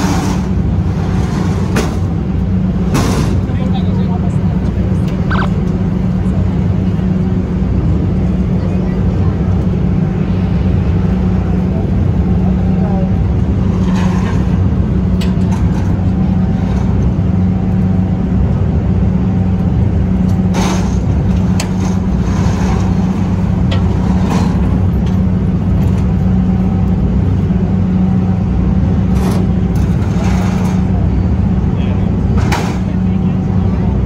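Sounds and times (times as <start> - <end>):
ferry engine humming: 0.0 - 34.0.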